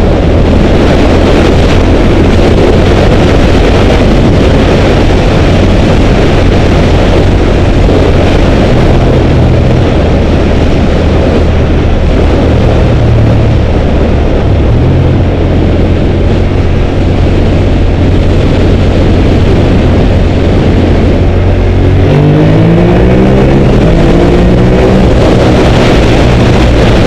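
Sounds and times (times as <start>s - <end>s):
motorcycle engine drone: 0.0s - 27.0s
wind rush on microphone: 0.0s - 27.0s.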